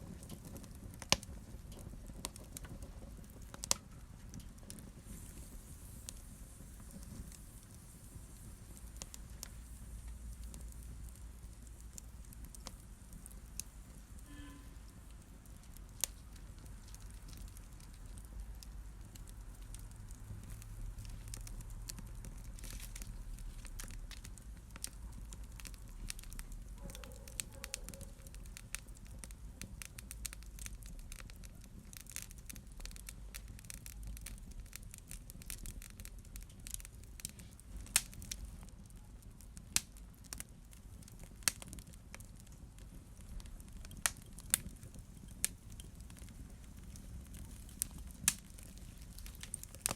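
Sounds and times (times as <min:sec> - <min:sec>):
fireplace fire crackling: 0:00.0 - 0:49.9.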